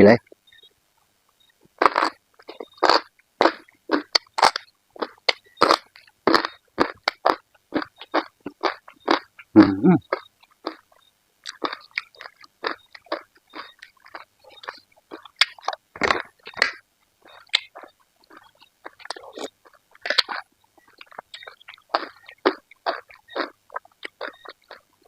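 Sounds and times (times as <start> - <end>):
wet chewing and mouth noises: 1.3 - 25.0.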